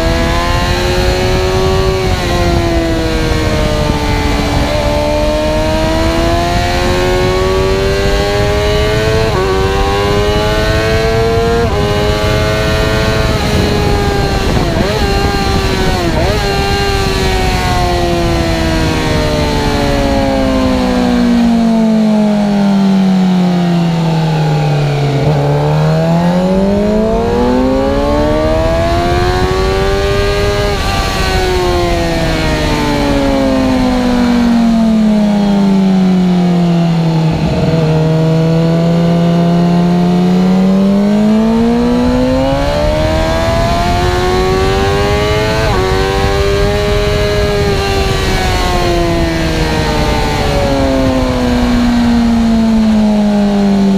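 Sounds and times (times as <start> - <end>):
motorcycle engine at speed: 0.0 - 53.9.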